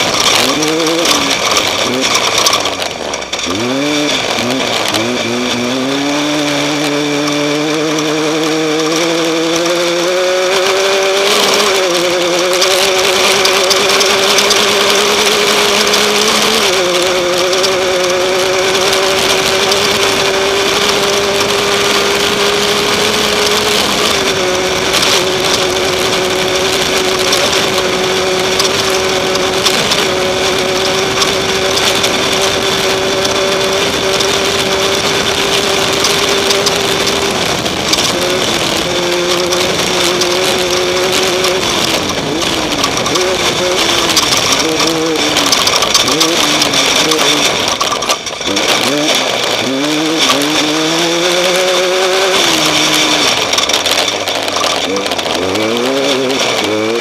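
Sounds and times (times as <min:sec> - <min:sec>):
vehicle engine running hard: 0:00.0 - 0:57.0
wind and road noise: 0:00.0 - 0:57.0.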